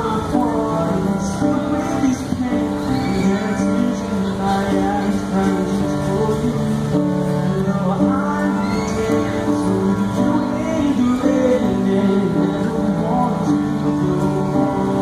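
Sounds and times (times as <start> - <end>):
grand piano playing slow chords: 0.0 - 15.0.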